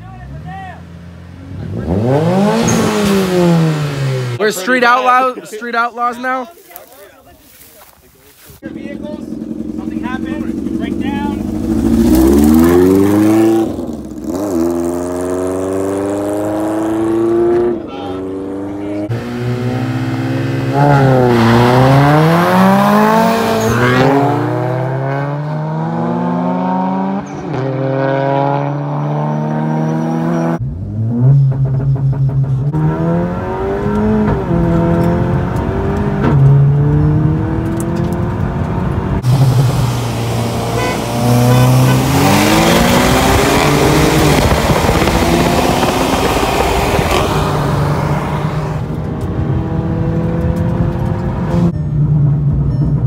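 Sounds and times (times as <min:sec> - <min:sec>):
cars accelerating hard: 0:00.2 - 0:05.3, 0:09.0 - 0:51.7.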